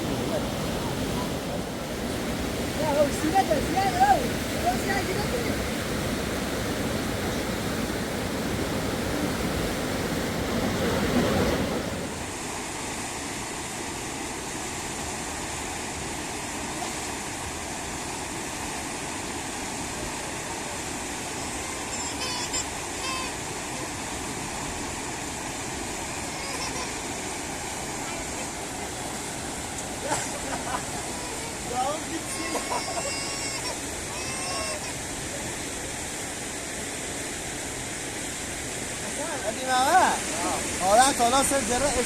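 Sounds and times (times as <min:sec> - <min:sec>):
rushing river water: 0:00.0 - 0:42.0.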